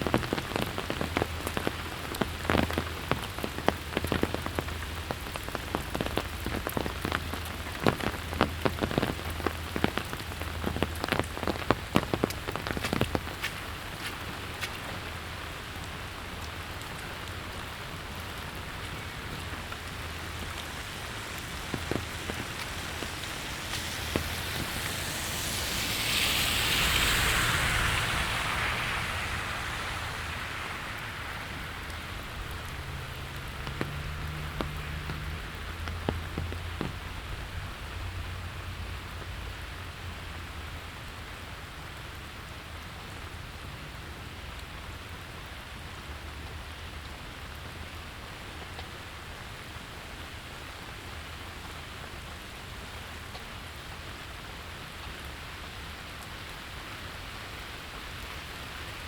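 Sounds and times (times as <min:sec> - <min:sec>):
rain falling on pavement: 0:00.0 - 0:59.0.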